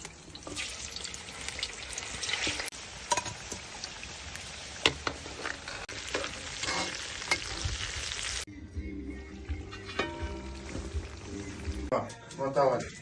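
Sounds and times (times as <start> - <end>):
food sizzling in oil: 0.0 - 8.5, 9.6 - 11.9.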